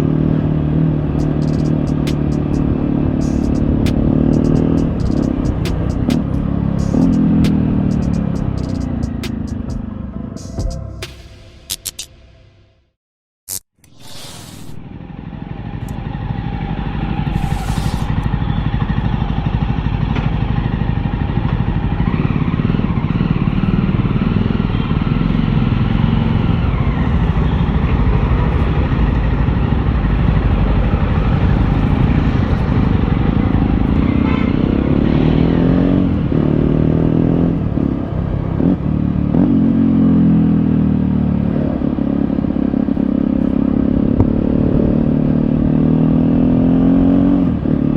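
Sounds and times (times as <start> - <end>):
motorcycle engine running: 0.0 - 11.3, 14.9 - 47.9.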